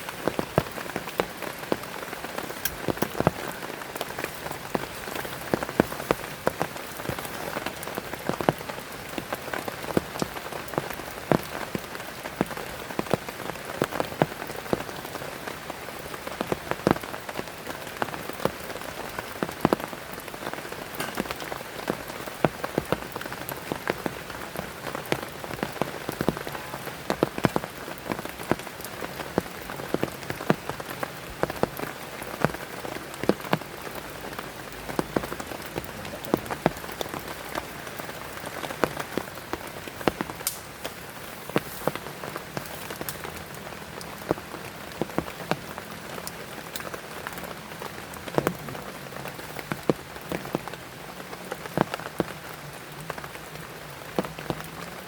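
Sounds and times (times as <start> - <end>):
heavy rain falling: 0.0 - 55.0
raindrops tapping a surface: 0.0 - 55.0.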